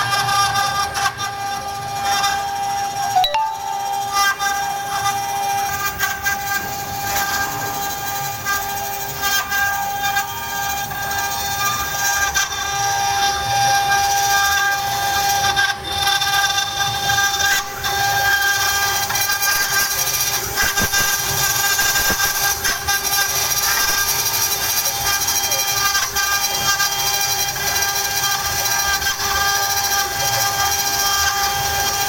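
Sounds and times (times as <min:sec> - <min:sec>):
router spindle whine: 0:00.0 - 0:32.0
rough cutting noise: 0:03.8 - 0:32.0.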